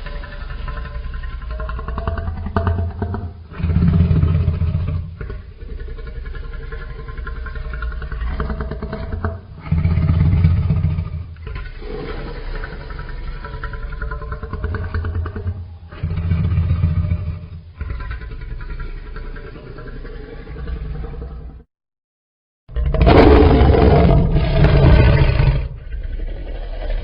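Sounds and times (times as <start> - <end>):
deep monster growl: 0.0 - 21.7, 22.7 - 27.0.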